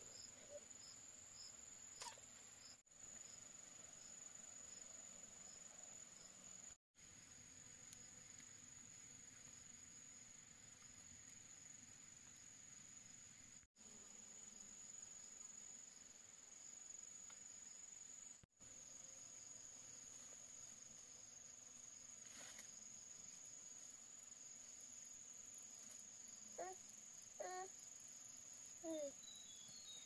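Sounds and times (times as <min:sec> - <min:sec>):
insects trilling: 0:00.1 - 0:30.0.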